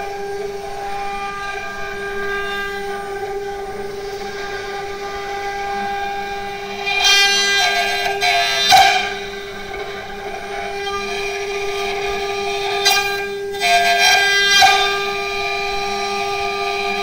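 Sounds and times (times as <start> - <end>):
carving bit cutting wood: 0.0 - 17.0
cnc router spindle whining: 0.0 - 17.0.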